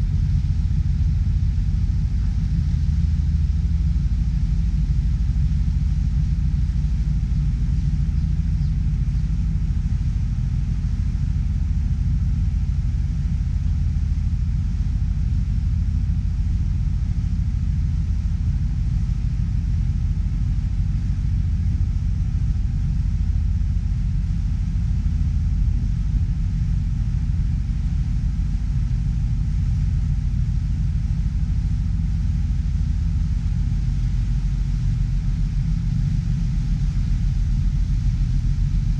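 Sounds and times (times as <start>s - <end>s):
ferry engine drone: 0.0s - 38.9s.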